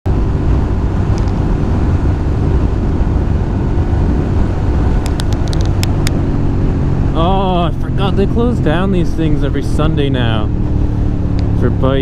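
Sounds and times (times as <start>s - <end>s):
motorcycle engine running: 0.1s - 12.0s
wind rumble on microphone: 0.1s - 12.0s.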